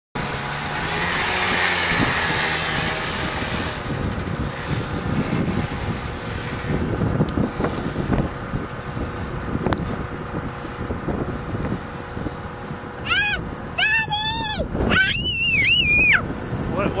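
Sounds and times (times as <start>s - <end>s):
quad engine passing: 0.2s - 17.0s.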